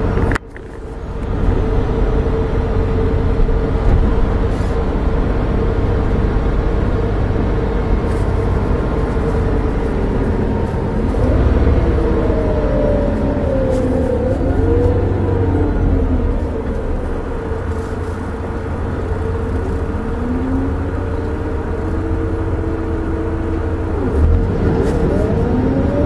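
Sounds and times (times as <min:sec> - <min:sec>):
bus engine drone: 0:00.0 - 0:26.0
road rumble: 0:00.0 - 0:26.0.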